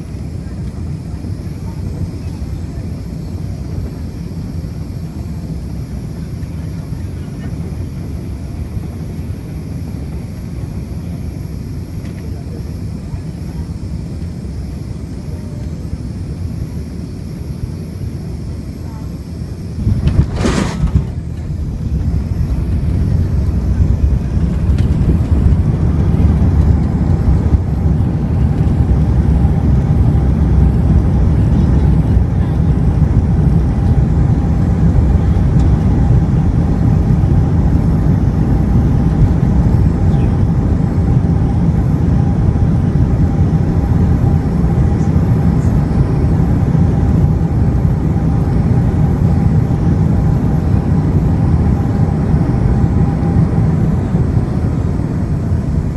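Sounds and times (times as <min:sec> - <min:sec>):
airliner cabin rumble: 0:00.0 - 0:55.9
faint steady hum: 0:00.0 - 0:55.9.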